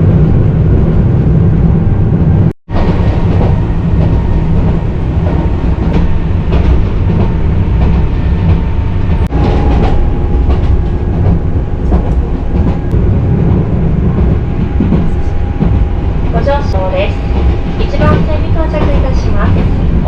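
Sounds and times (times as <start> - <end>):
electric train rumbling: 0.0 - 20.0
steady whine: 0.0 - 20.0.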